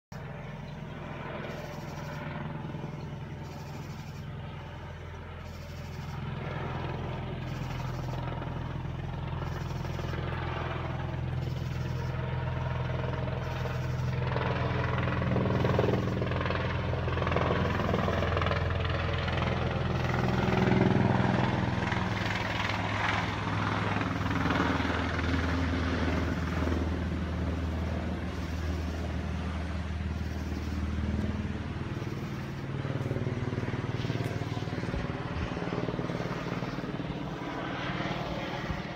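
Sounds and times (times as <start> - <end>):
helicopter rotor drone: 0.1 - 38.9.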